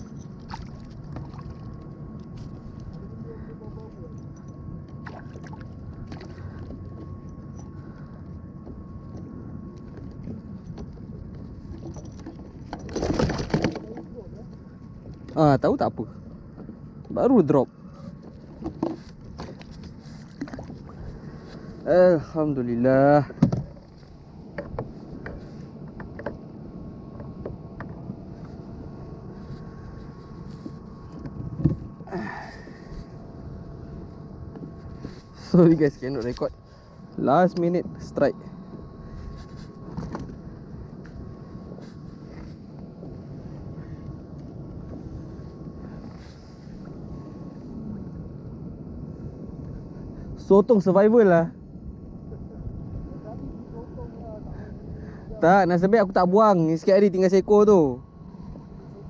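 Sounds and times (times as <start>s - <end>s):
water rumble: 0.0s - 48.5s
low wind on microphone: 0.0s - 59.0s.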